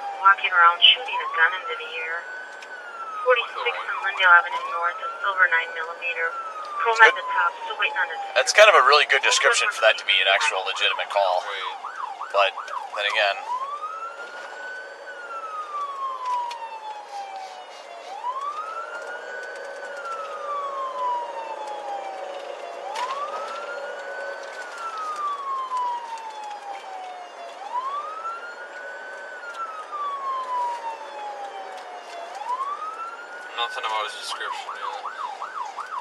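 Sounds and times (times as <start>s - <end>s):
police siren wailing: 0.0s - 36.0s.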